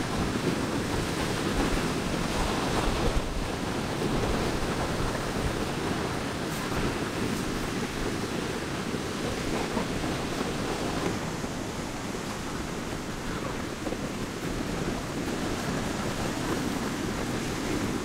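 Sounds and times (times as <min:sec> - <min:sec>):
waves rushing on a beach: 0:00.0 - 0:18.0
wind: 0:00.0 - 0:18.0.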